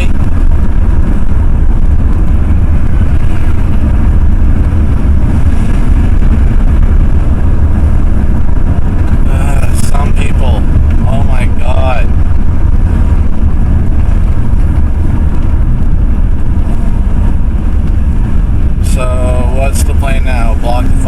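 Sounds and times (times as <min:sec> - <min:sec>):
pickup engine and road noise drone: 0:00.0 - 0:21.0.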